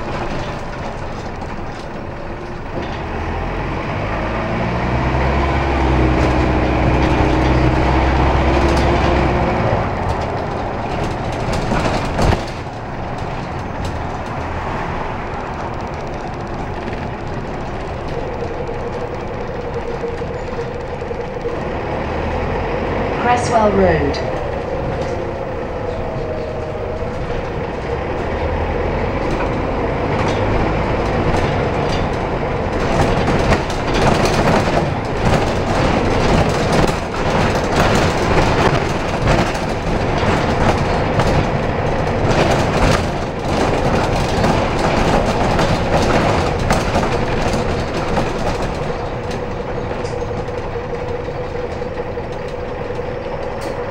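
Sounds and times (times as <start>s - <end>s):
bus engine and road noise: 0.0s - 53.9s.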